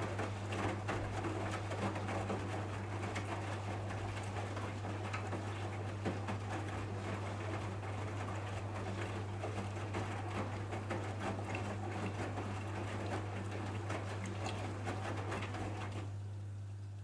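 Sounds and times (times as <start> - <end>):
water splashing in washing drum: 0.0 - 16.4
washing machine motor hum: 0.0 - 17.0.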